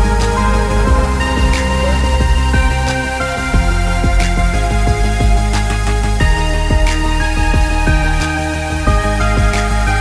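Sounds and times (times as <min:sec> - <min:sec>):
held tones over a steady beat: 0:00.0 - 0:10.0.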